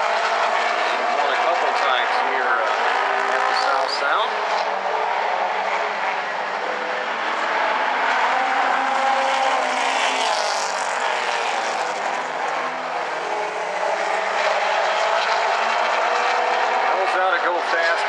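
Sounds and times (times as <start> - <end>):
race car engines at full throttle: 0.0 - 18.0.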